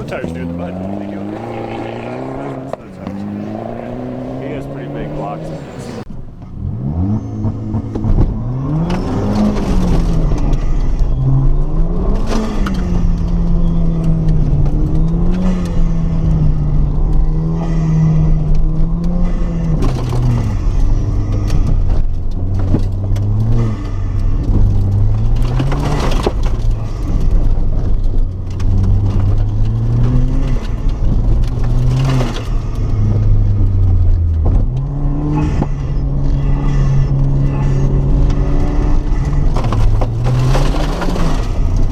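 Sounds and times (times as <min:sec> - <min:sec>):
racing car engine revving: 0:00.0 - 0:41.9.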